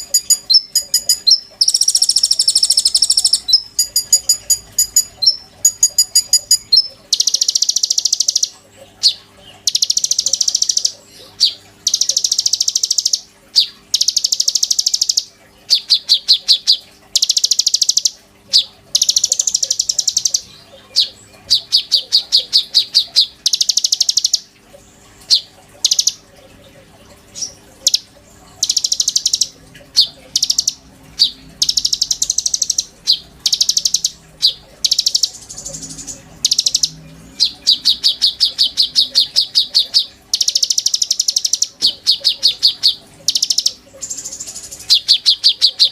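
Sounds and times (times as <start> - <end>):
songbird chattering: 0.0 - 24.4, 25.3 - 26.2, 27.3 - 45.9.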